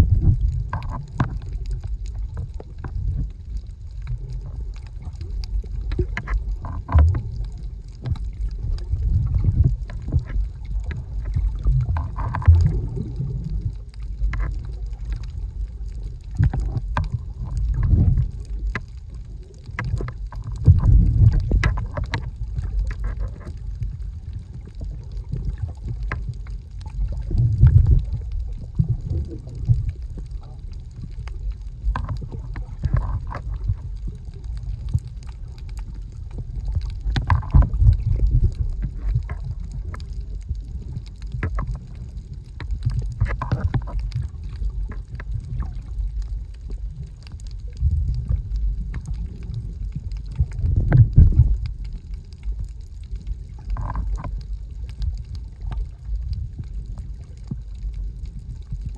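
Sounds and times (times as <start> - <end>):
muffled underwater rumbling and sloshing: 0.0 - 58.9.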